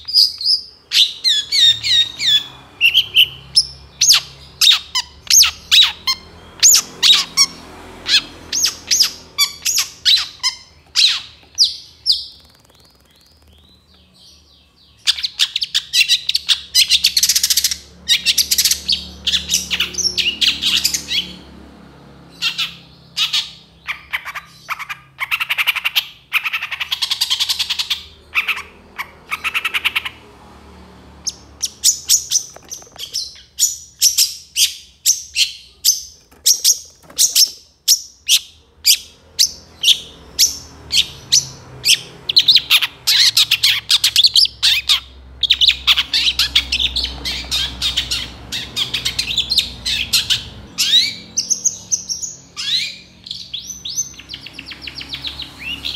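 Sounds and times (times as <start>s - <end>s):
sharp evenly spaced bird notes: 0.0s - 21.4s, 31.2s - 55.9s
bird chattering song: 0.0s - 21.6s, 22.3s - 30.3s, 31.2s - 55.9s.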